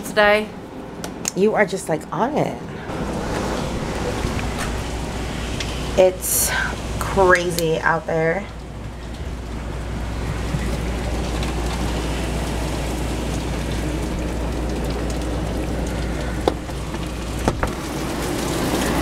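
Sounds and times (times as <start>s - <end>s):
hurricane wind: 0.0s - 19.0s
heavy rain: 2.8s - 19.0s.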